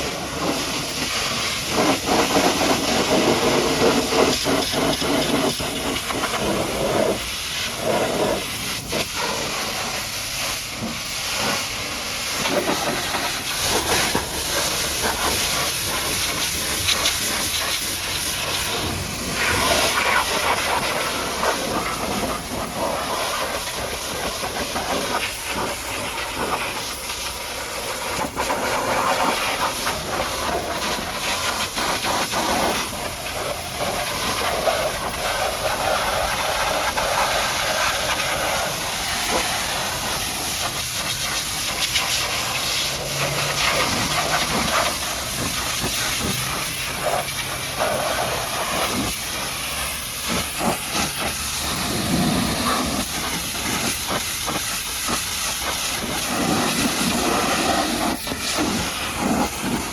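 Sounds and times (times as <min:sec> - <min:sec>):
pressure washer spraying water: 0:00.0 - 0:59.9.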